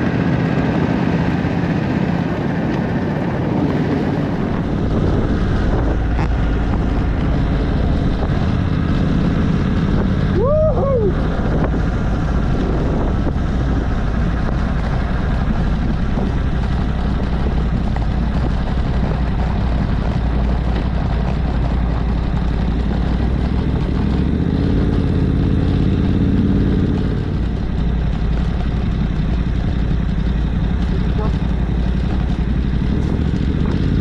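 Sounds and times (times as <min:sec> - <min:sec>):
motorcycle engine cruising: 0:00.0 - 0:34.0
rushing wind: 0:00.0 - 0:34.0.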